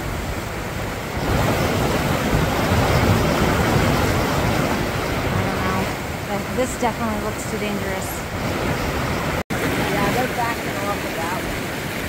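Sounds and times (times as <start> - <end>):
mountain creek rushing: 0.0 - 12.0.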